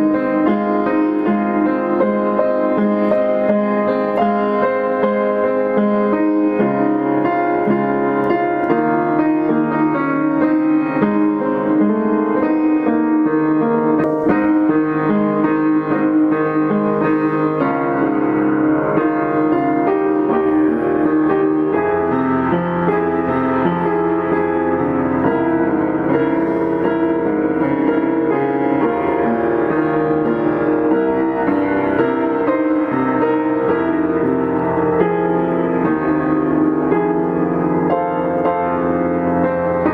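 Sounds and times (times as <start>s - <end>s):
background piano music: 0.0s - 39.9s.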